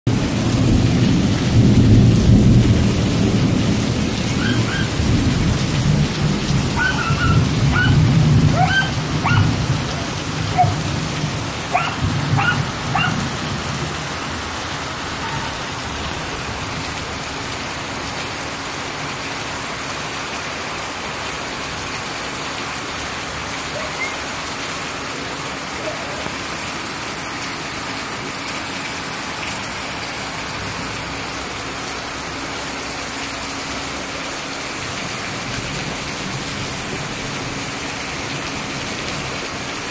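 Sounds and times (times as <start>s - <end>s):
heavy rain pouring: 0.1s - 39.9s.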